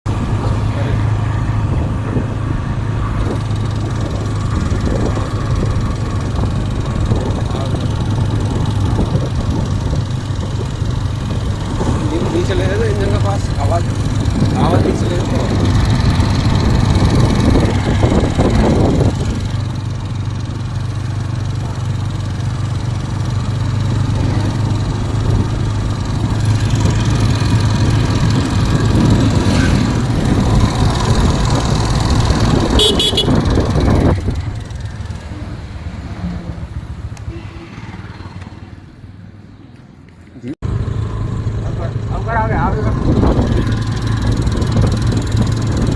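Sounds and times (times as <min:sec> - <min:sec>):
motorcycle engine running: 0:00.1 - 0:39.2, 0:40.6 - 0:45.9
engine ticking: 0:01.7 - 0:35.5, 0:41.4 - 0:45.9.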